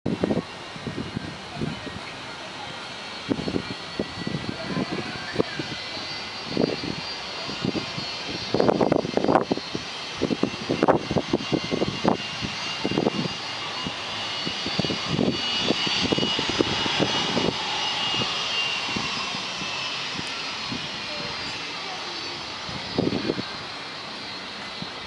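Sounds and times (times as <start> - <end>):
jet engines whine: 0.1 - 25.0
wind buffeting microphone: 0.1 - 25.0.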